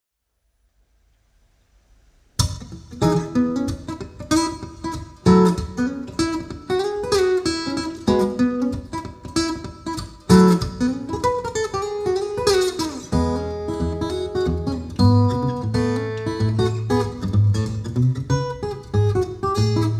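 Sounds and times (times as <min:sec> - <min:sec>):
acoustic guitar chords with slides: 0:02.4 - 0:19.9.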